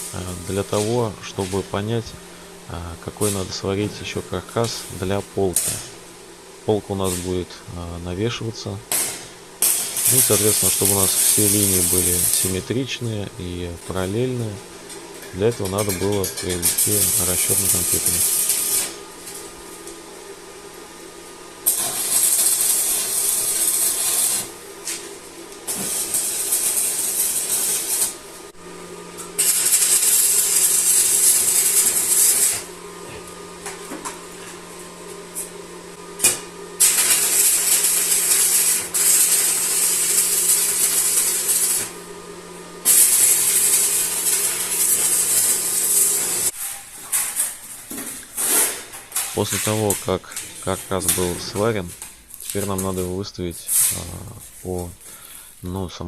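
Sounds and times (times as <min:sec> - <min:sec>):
arc welding crackling hiss: 0:00.0 - 0:56.0.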